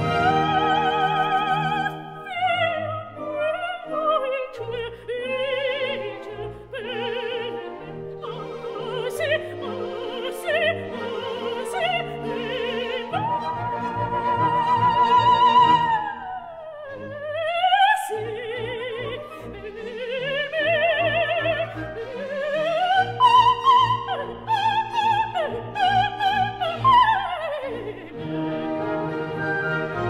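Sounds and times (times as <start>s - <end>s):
operatic soprano singing: 0.0s - 30.0s
orchestral accompaniment: 0.0s - 30.0s.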